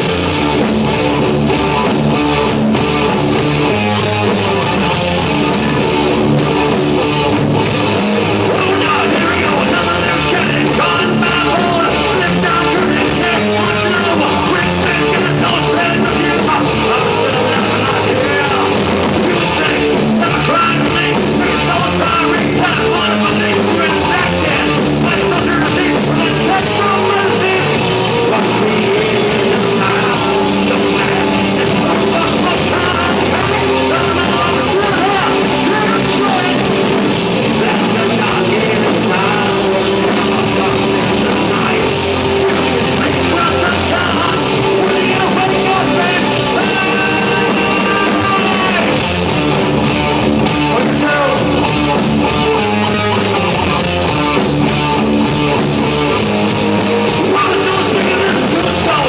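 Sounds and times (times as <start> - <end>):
hard rock band playing: 0.0 - 59.0
person singing: 0.0 - 59.0.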